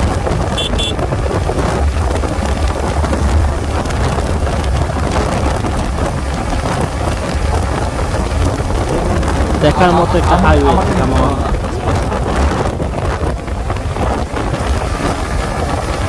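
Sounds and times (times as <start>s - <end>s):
motorcycle road noise rumble: 0.0s - 16.0s
wind buffeting microphone: 0.0s - 16.0s.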